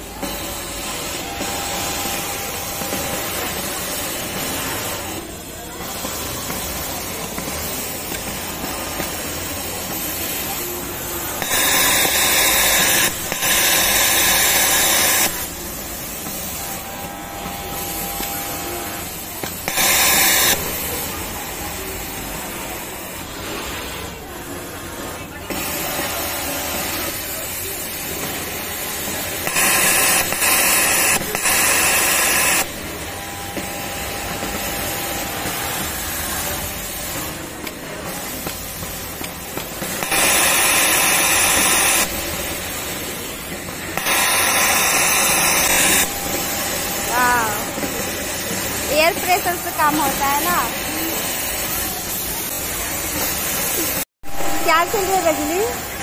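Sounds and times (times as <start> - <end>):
overlock machine sewing: 0.0 - 56.0.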